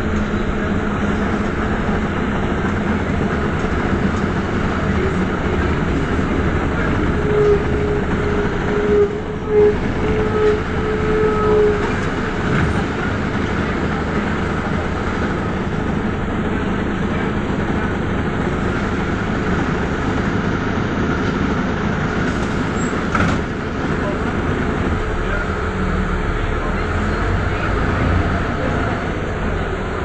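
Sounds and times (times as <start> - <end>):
bus engine running: 0.0 - 30.0
road and rattle noise: 0.0 - 30.0.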